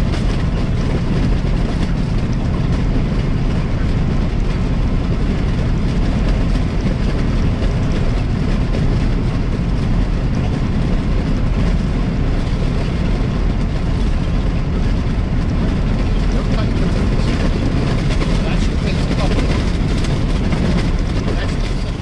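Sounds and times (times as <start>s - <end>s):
truck engine and road drone: 0.0s - 22.0s.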